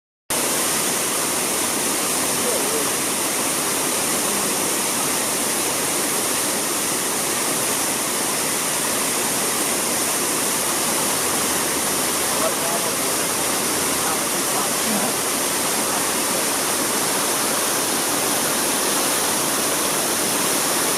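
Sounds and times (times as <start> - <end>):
fountain water splashing: 0.3 - 20.9.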